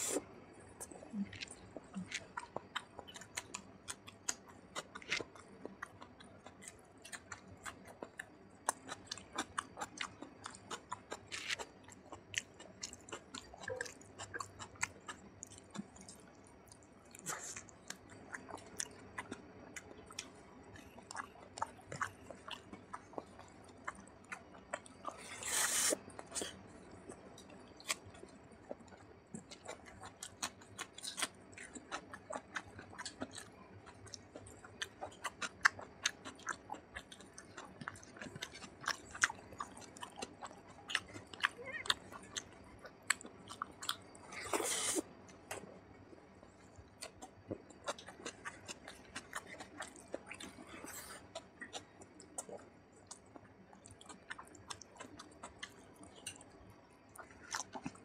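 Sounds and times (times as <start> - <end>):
wet chewing and lip smacking: 0.8 - 58.0.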